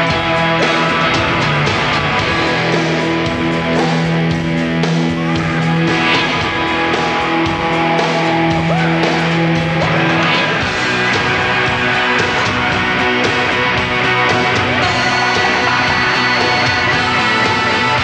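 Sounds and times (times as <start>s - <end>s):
rock music with guitar: 0.0s - 18.0s.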